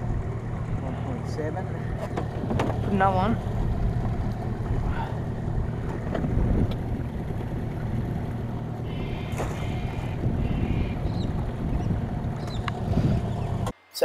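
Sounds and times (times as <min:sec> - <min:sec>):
outboard motor running: 0:00.0 - 0:13.7.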